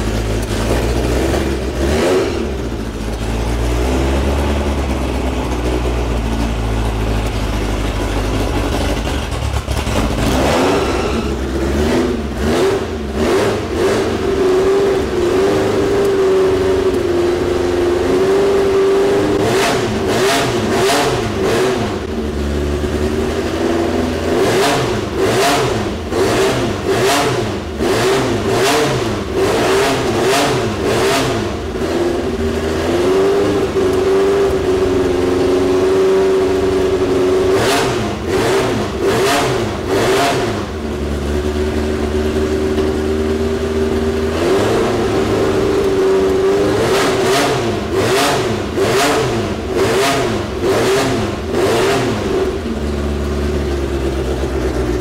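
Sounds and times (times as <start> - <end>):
engine throttle blips: 0.0 - 55.0
race engine running: 0.0 - 55.0.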